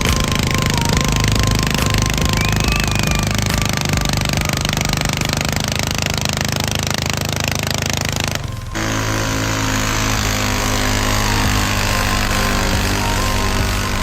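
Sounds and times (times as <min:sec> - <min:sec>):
tractor engine running hard: 0:00.0 - 0:14.0.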